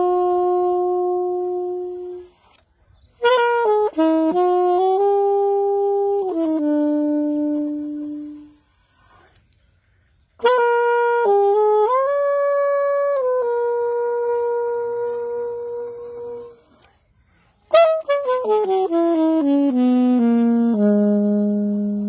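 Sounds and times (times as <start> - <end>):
saxophone playing melody: 0.0 - 9.3, 10.4 - 16.9, 17.7 - 22.0.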